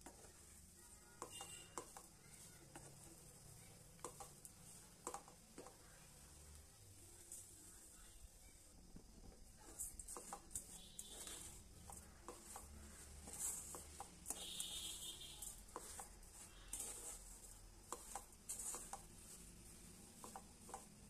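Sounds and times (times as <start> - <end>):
wooden spatula scraping steel pan: 0.0 - 6.4, 9.2 - 21.0.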